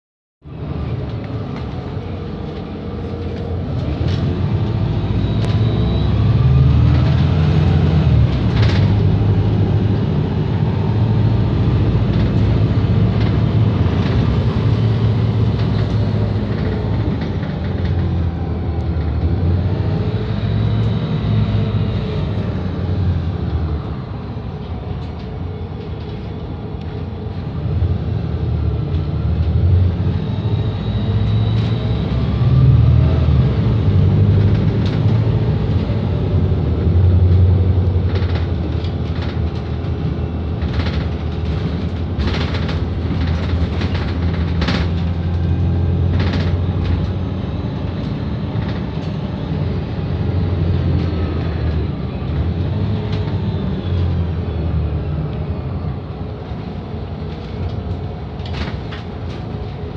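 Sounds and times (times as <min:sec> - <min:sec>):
bus diesel engine droning: 0:00.5 - 0:59.9
rattles and clicks from bus body: 0:00.6 - 0:59.9.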